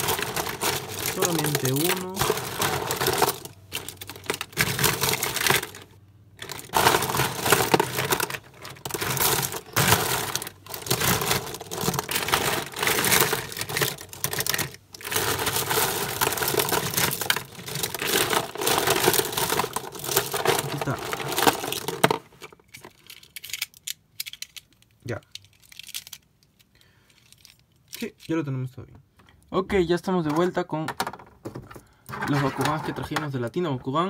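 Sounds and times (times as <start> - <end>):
plastic toys clattering: 0.0 - 28.5, 30.1 - 34.0.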